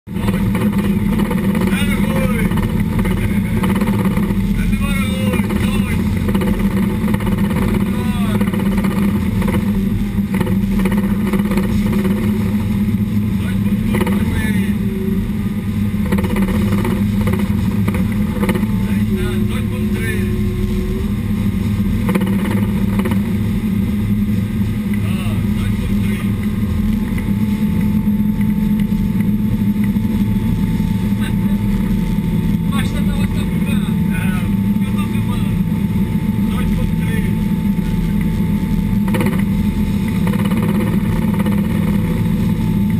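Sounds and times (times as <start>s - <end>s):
boat engines droning: 0.1s - 42.9s
faint steady whine: 0.1s - 42.9s
water rushing along hull: 0.1s - 42.9s.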